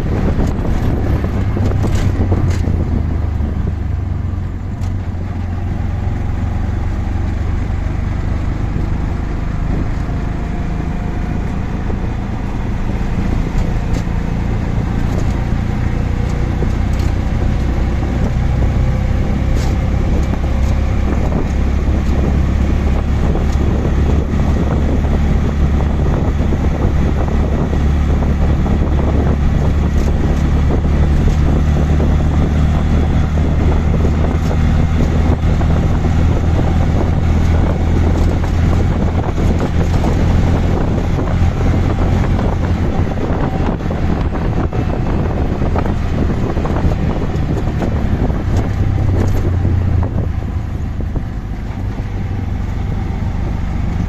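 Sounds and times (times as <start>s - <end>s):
auto-rickshaw engine running: 0.0s - 54.0s
road and wind noise: 0.0s - 54.0s.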